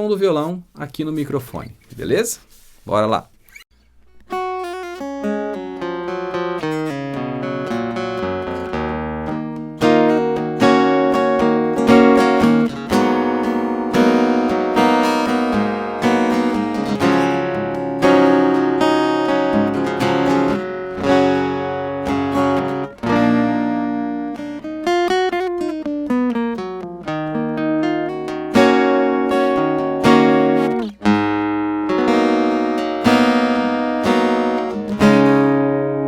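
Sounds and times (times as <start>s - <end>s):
acoustic guitar strummed and picked: 3.4s - 36.0s.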